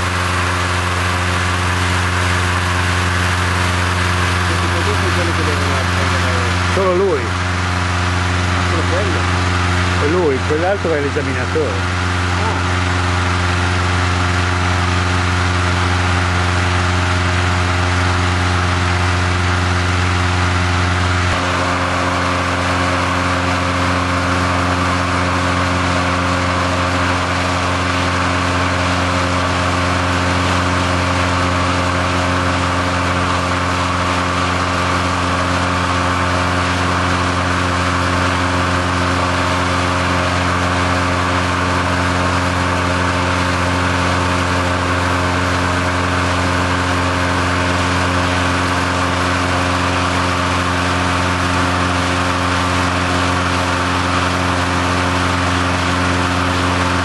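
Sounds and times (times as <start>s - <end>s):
engine-driven inflator fan running: 0.0s - 57.0s.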